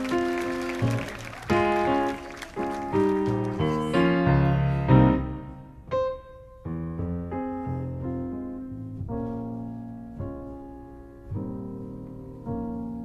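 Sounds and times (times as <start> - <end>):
noisy hiss: 0.0 - 13.0
piano chords: 0.0 - 13.0.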